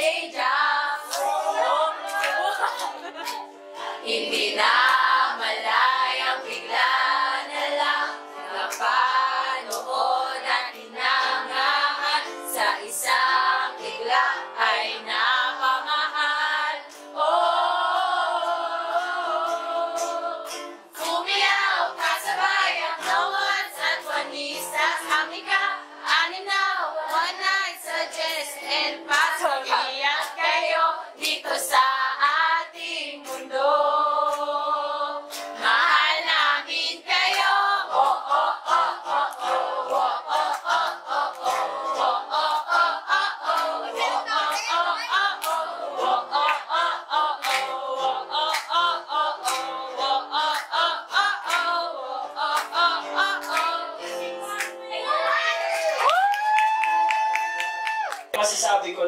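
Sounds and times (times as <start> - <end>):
group of voices singing: 0.0 - 56.3.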